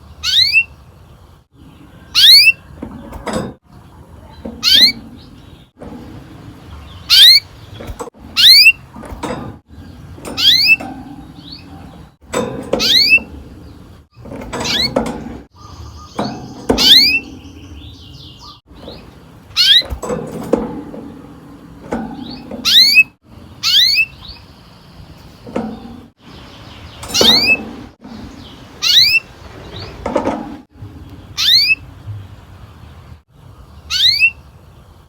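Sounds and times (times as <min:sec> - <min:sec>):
canary chirping: 0:00.0 - 0:20.7, 0:21.9 - 0:30.2, 0:31.0 - 0:32.4, 0:33.8 - 0:34.5.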